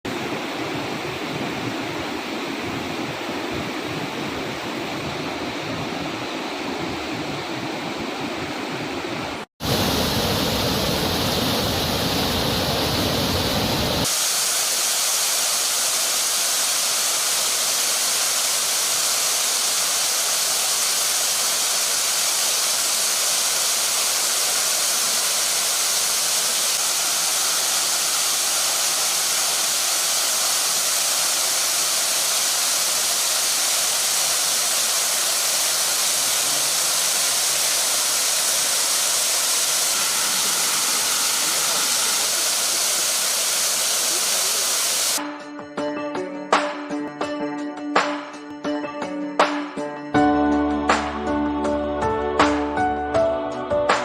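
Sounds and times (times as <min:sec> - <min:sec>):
rushing floodwater waterfall: 0:00.0 - 0:45.2.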